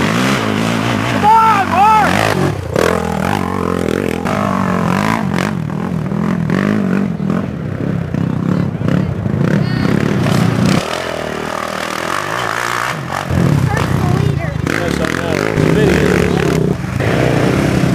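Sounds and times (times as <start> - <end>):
quad engine revving: 0.0 - 17.9.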